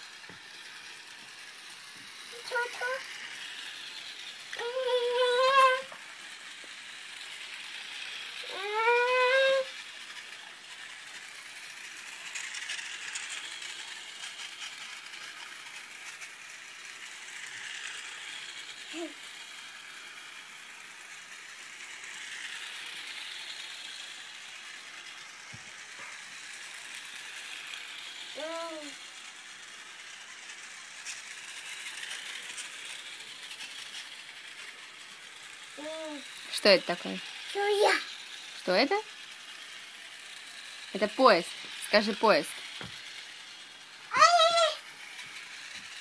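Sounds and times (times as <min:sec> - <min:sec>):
toy train motor whirring: 0:00.0 - 0:46.0
toy train wheels clattering: 0:00.0 - 0:46.0.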